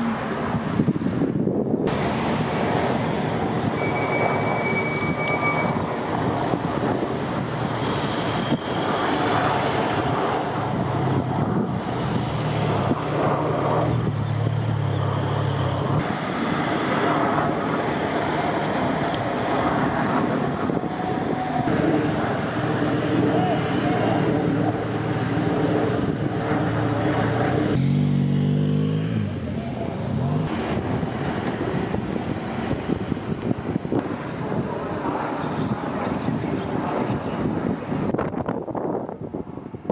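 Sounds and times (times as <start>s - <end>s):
rumble of passing vehicles: 0.0s - 39.9s.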